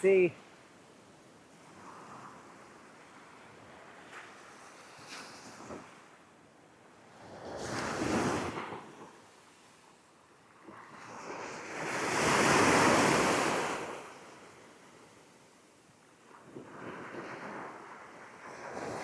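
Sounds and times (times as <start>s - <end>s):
waves breaking on a beach: 0.0s - 19.0s.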